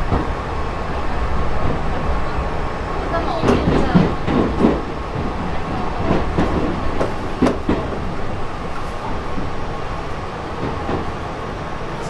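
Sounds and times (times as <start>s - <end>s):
train wheels rumbling on rail: 0.0s - 12.0s
wheels clacking over rail joints: 0.0s - 12.0s.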